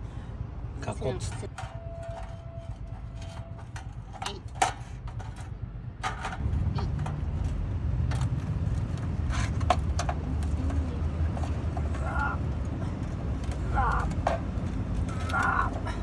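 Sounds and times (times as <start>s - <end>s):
low steady rumble: 0.0s - 16.0s
metal clanks and knocks: 0.6s - 16.0s.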